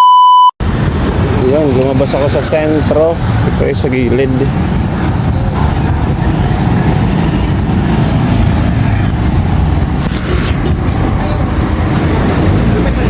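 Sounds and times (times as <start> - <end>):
road noise: 0.6 - 13.0
vehicle engine rumble: 0.6 - 13.0.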